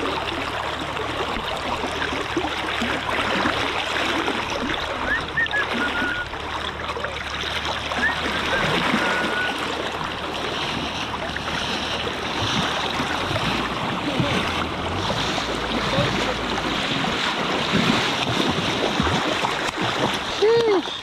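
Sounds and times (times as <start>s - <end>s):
fish splashing: 0.0s - 21.0s
river current rushing: 0.0s - 21.0s.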